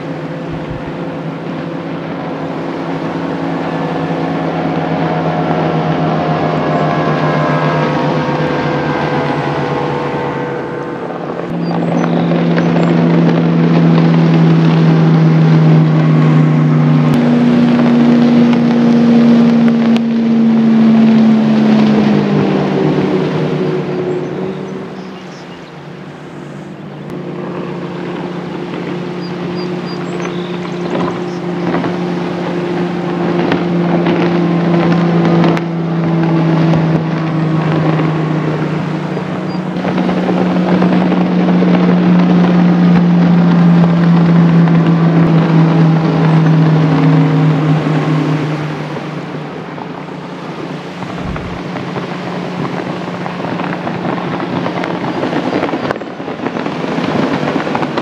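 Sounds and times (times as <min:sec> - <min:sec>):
outboard motor passing: 0:00.0 - 0:58.0
wind rumble on microphone: 0:00.0 - 0:58.0.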